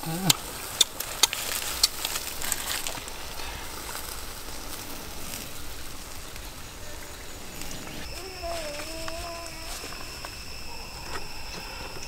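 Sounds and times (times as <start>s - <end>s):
ribs sizzling on a grill: 0.0s - 10.0s.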